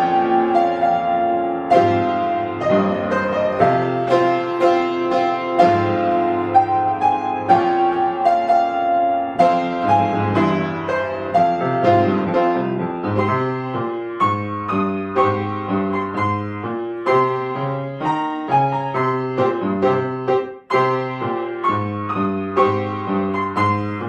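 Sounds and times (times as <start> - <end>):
solo piano piece: 0.0 - 24.0.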